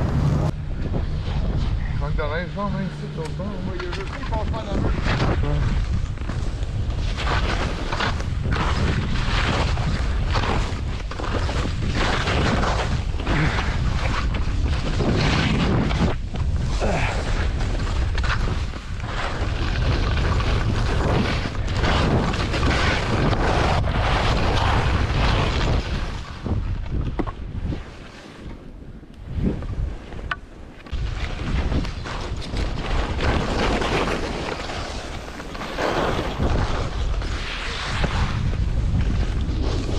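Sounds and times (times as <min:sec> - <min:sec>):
skis scraping on snow: 0:00.0 - 0:28.7, 0:29.3 - 0:39.9
wind buffeting microphone: 0:00.0 - 0:39.9.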